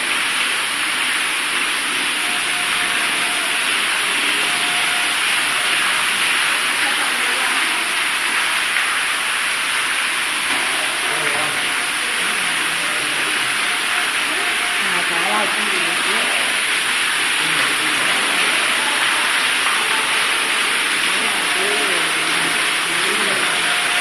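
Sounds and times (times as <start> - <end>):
heavy rain: 0.0 - 24.0
running water: 0.0 - 24.0.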